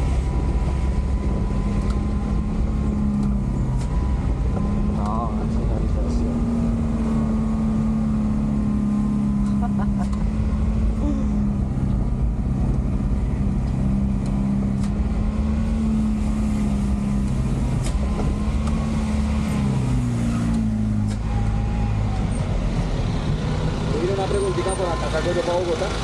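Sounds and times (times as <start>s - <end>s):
truck diesel engine from cab: 0.0s - 26.0s.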